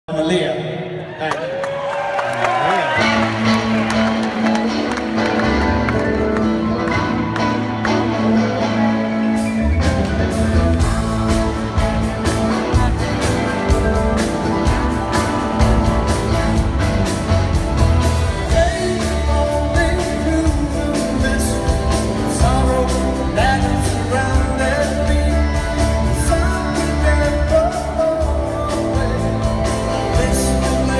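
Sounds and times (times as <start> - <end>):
live rock band playing: 2.4 - 30.9
electric guitar: 2.7 - 30.9.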